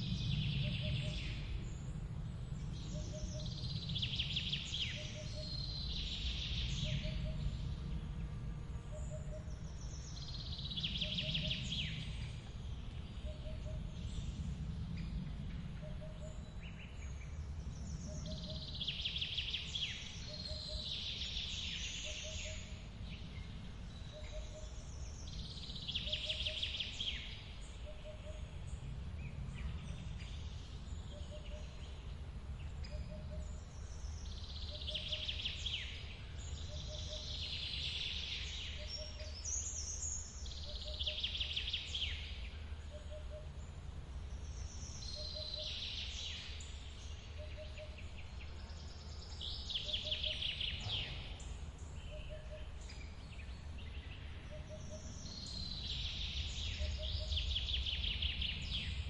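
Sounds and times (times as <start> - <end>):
birds singing trilling phrases: 2.7 - 8.0, 8.8 - 59.0.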